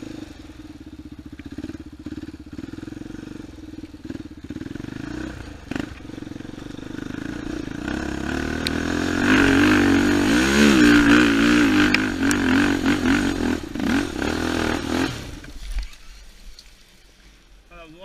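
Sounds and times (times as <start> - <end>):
vehicle engine revving: 0.0 - 15.6.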